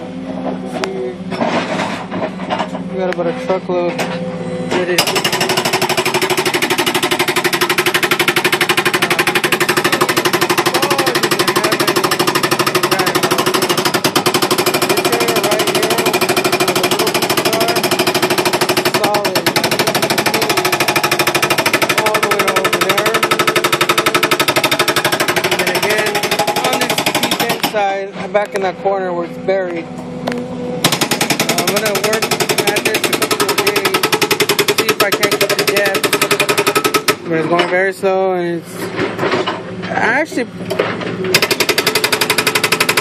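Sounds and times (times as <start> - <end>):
machine engine running: 0.0 - 43.0
hydraulic breaker hammer pounding rock: 0.4 - 28.7, 30.8 - 43.0.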